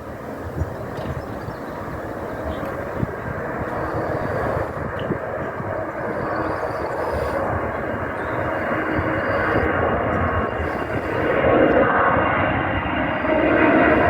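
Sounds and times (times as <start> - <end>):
distant aircraft engines: 0.0 - 14.0.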